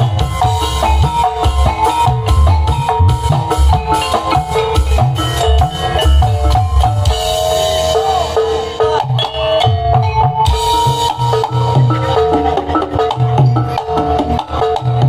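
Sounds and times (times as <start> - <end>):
heavy drum beats: 0.0 - 15.0
keyboard and percussion melody: 0.0 - 15.0.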